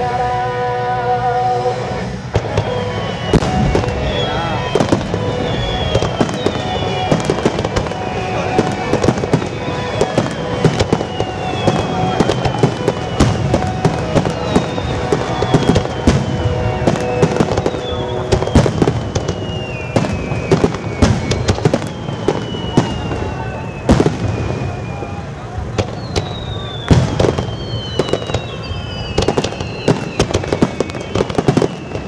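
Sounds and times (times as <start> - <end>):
firework shells bursting: 2.4 - 32.0.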